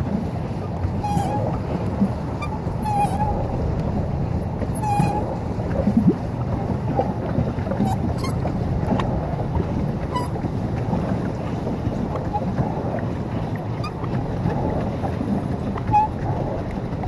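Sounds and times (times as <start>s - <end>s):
paddle wheel churning water: 0.0s - 17.0s
wind on microphone: 0.0s - 17.0s.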